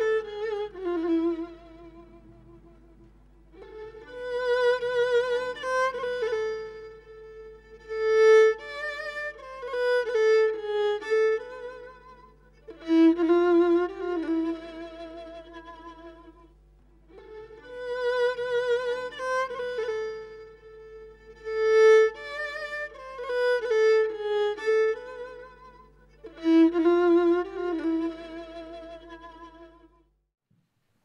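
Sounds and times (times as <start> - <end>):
solo violin melody: 0.0 - 30.1.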